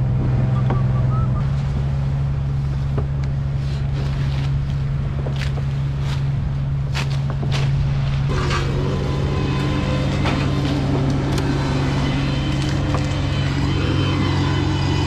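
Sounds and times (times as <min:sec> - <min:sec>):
large engine running steadily: 0:00.0 - 0:15.0.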